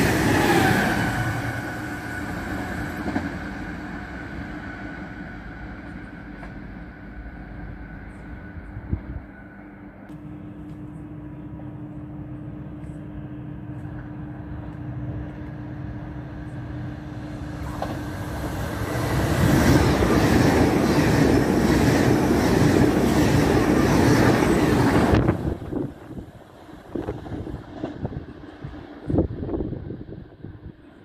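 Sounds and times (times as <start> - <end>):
train passing on rails: 0.0 - 31.0.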